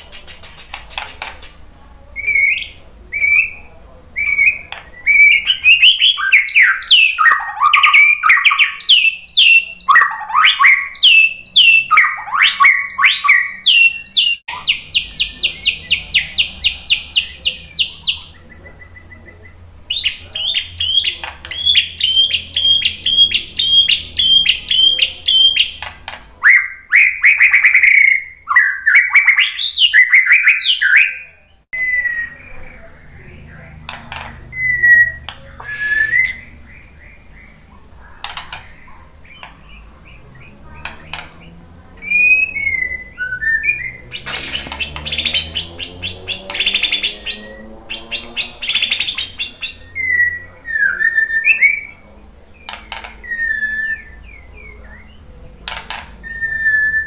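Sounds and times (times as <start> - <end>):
bird singing whistled phrases: 2.2 - 16.5, 17.1 - 32.7, 34.5 - 37.6, 42.0 - 52.0, 53.2 - 55.2, 56.2 - 57.0.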